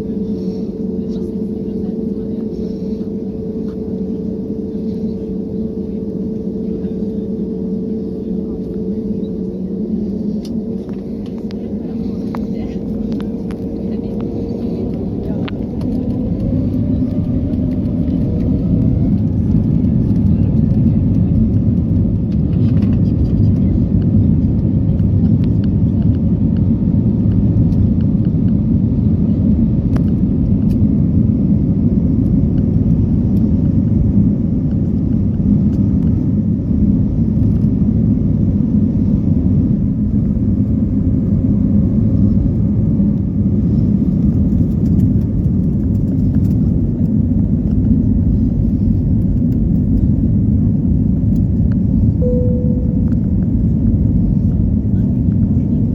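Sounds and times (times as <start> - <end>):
aircraft cabin engine rumble: 0.0 - 55.9.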